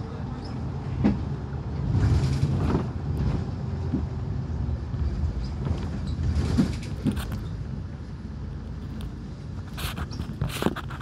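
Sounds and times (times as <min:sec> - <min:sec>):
bus rumbling inside cabin: 0:00.0 - 0:11.0.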